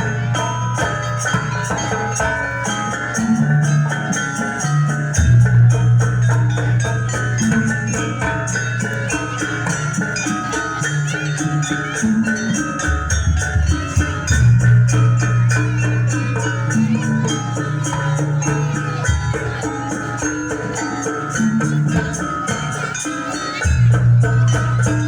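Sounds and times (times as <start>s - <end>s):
fast percussion strokes: 0.0s - 25.0s
ringing tuned percussion: 0.0s - 25.0s.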